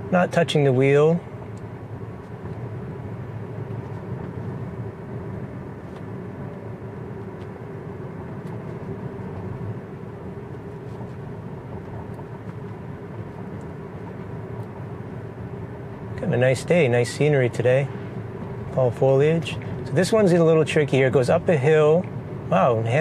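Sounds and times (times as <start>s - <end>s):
tyre and road noise inside car: 0.0s - 23.0s.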